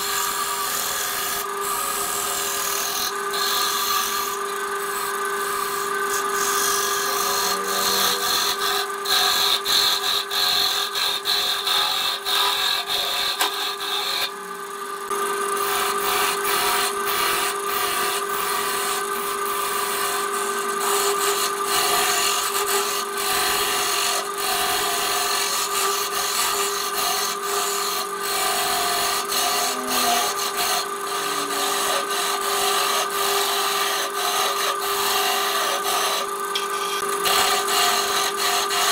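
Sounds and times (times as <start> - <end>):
gouge scraping spinning wood: 0.0 - 38.9
wood lathe running: 0.0 - 38.9.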